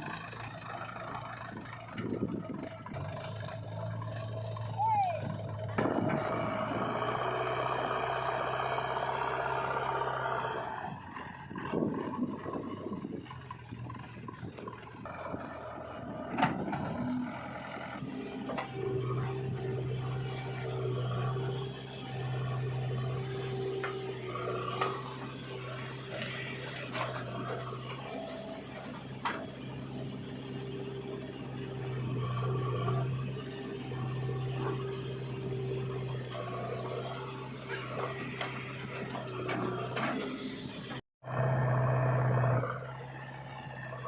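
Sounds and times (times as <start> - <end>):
diesel earthmoving machinery running: 0.0 - 44.0.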